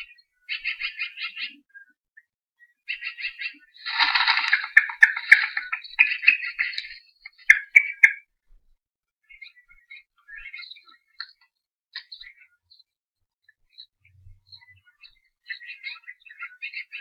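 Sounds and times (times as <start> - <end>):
small birds chirping: 0.0 - 8.2, 9.2 - 17.0.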